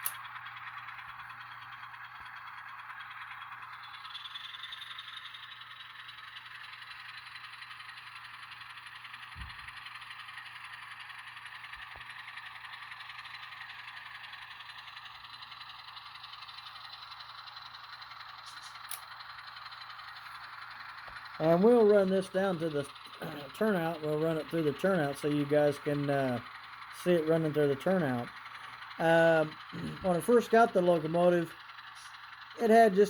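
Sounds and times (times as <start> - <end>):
thin diesel engine sound: 0.0 - 33.0.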